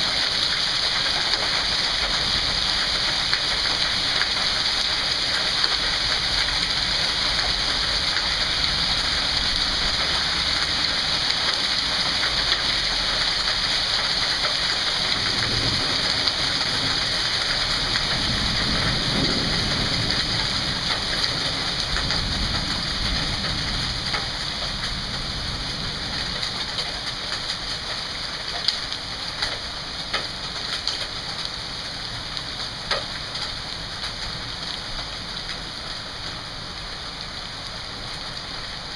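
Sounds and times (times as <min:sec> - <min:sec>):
heavy rain with hail: 0:00.0 - 0:38.9.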